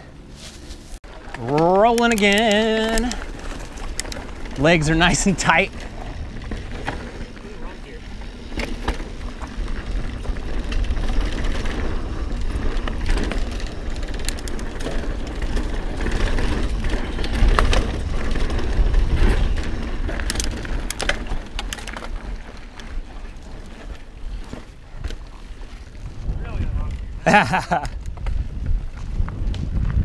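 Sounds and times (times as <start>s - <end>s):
tyres crunching over dirt: 0.2s - 30.0s
clicks and rattles of bike: 0.5s - 30.0s
wind rumble on microphone: 2.6s - 30.0s.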